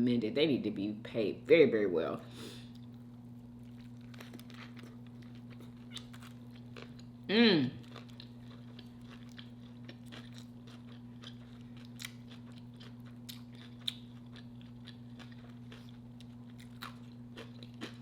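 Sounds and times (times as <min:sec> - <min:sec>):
low electrical hum: 0:00.0 - 0:18.0
person chewing food: 0:02.6 - 0:18.0.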